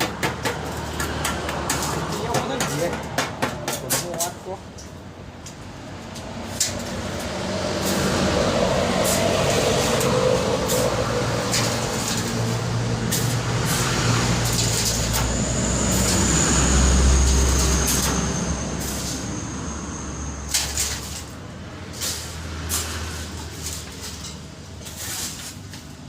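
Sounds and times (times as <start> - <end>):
knocks and scrapes: 0.0 - 4.9, 6.1 - 19.4, 20.5 - 26.0.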